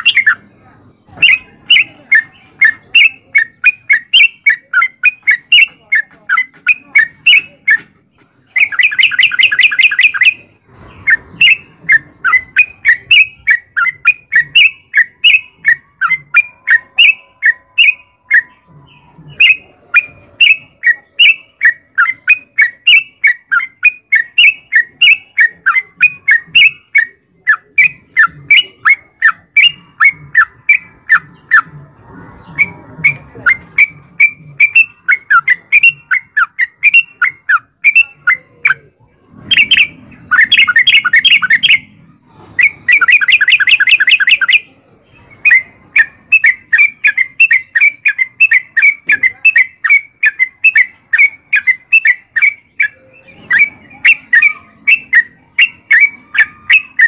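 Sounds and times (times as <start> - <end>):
bird rapid chattering: 0.0 - 57.0.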